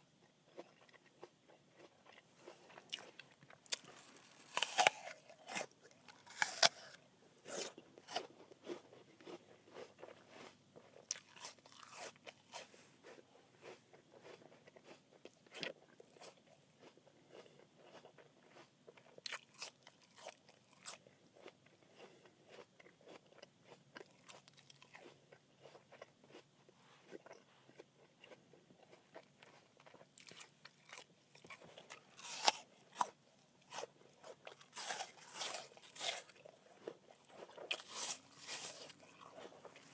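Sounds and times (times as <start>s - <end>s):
apple being chewed: 0.0s - 39.9s.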